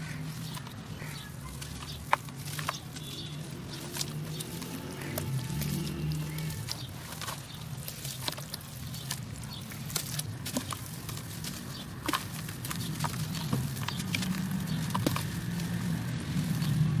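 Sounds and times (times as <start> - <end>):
dirt crunching into water basin: 0.0 - 17.0
small bits pattering: 0.0 - 17.0.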